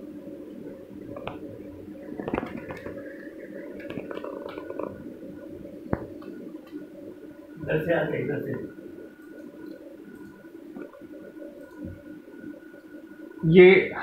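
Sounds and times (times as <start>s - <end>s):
low equipment hum: 0.0s - 14.0s.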